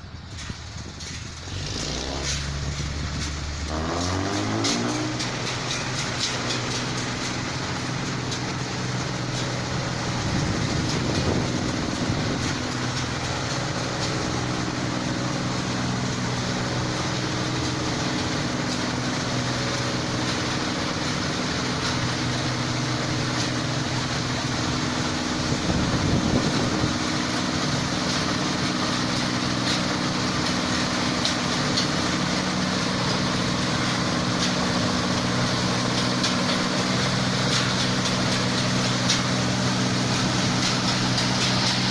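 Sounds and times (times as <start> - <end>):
combine harvester engine clattering: 0.0 - 41.9.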